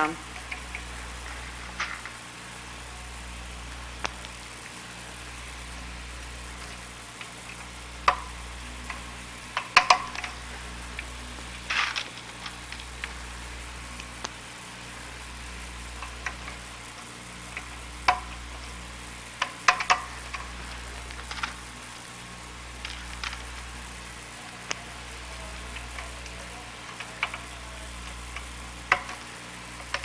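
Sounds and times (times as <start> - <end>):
low hum: 0.0 - 30.0
steady hiss: 0.0 - 30.0.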